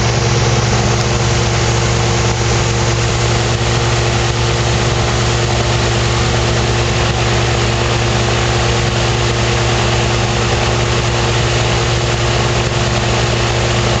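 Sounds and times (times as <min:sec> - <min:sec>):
engine and propeller running: 0:00.0 - 0:14.0.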